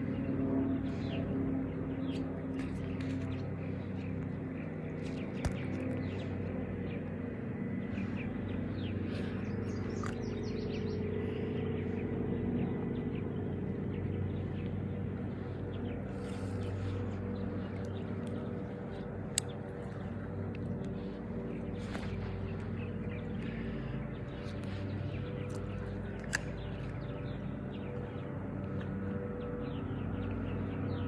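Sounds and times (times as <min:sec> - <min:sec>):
low mechanical hum: 0:00.0 - 0:31.0
small birds chirping: 0:00.0 - 0:31.0.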